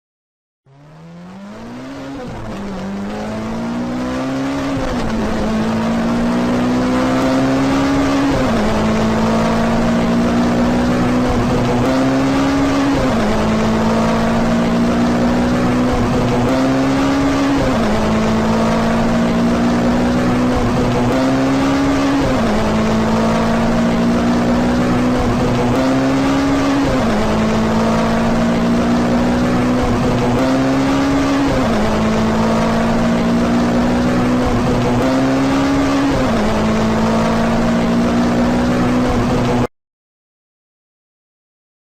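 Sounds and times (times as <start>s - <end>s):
sports car engine accelerating: 0.7s - 39.7s.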